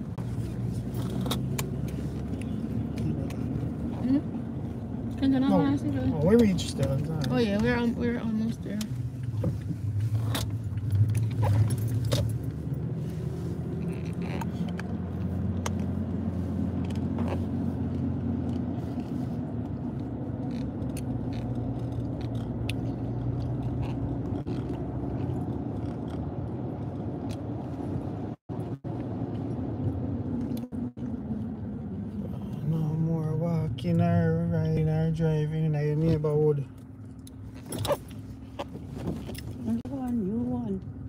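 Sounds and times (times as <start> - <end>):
car engine and road hum: 0.0 - 41.0.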